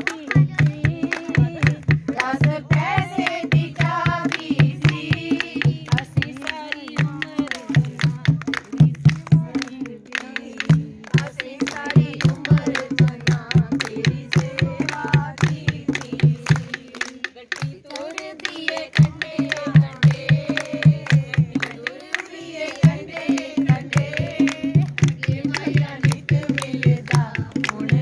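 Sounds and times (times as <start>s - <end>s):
barrel drum beat: 0.0s - 28.0s
hand claps: 0.0s - 28.0s
women singing folk verses: 0.0s - 28.0s.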